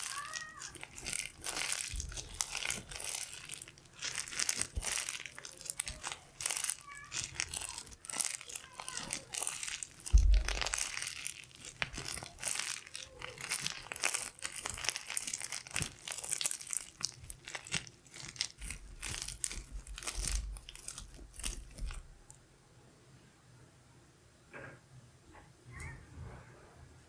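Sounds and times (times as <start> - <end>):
slime crackling and crinkling: 0.0 - 22.4.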